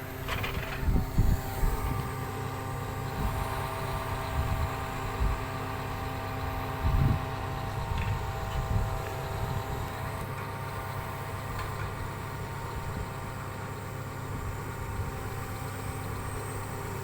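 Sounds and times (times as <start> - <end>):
construction machine engine humming: 0.0 - 17.0.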